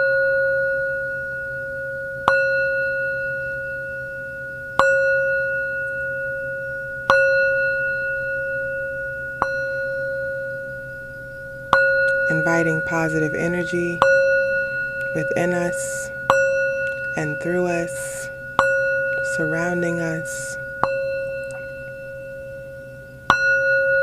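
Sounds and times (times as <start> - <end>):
singing bowl ringing: 0.0 - 24.0.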